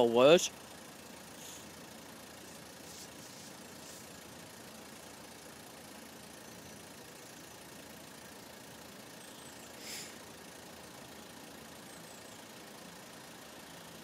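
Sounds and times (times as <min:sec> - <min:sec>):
faint engine hum: 0:00.0 - 0:14.0.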